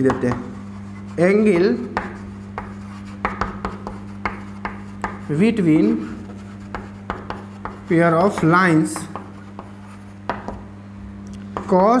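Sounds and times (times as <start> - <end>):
chalk tapping and scraping: 0.0 - 10.7.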